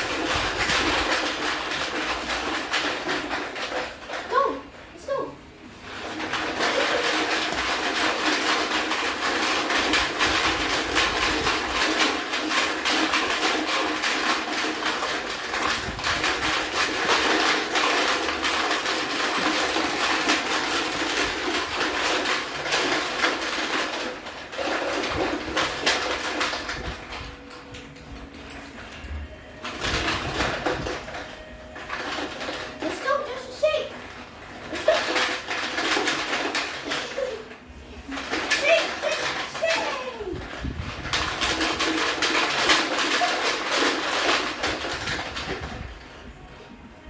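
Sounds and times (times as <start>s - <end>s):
plastic balls rattling in containers: 0.0s - 47.0s.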